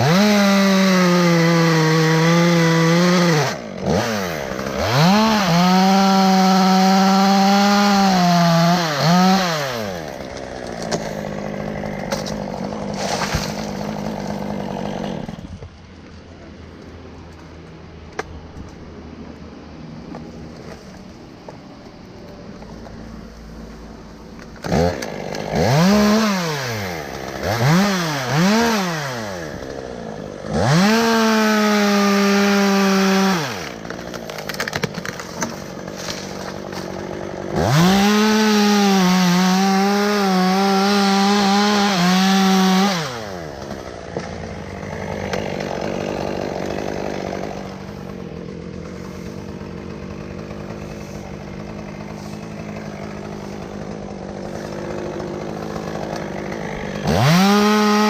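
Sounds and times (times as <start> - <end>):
chainsaw revving: 0.0 - 15.6, 24.4 - 58.0
chainsaw cutting wood: 0.0 - 15.8, 20.0 - 58.0.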